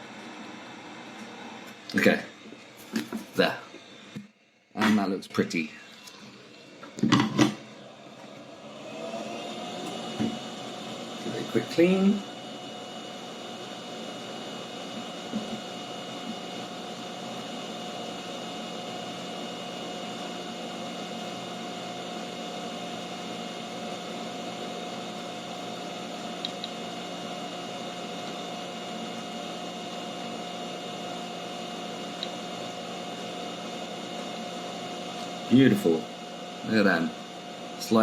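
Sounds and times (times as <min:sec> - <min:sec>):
electric fan hum: 0:00.0 - 0:38.0.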